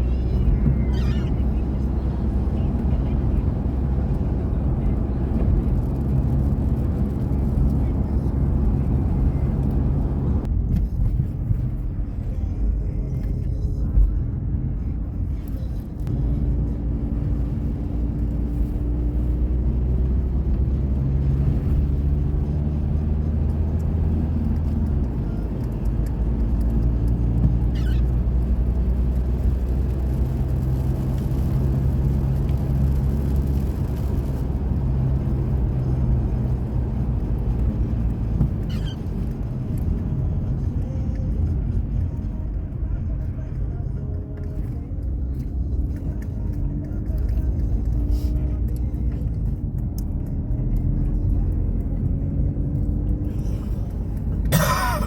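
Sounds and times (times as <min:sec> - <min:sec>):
car driving rumble: 0:00.0 - 0:55.0
engine hum: 0:00.0 - 0:55.0.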